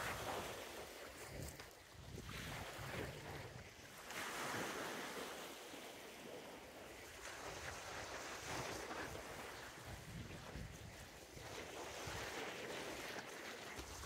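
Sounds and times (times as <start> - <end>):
wind rumbling on microphone: 0.0 - 4.8, 7.0 - 14.0.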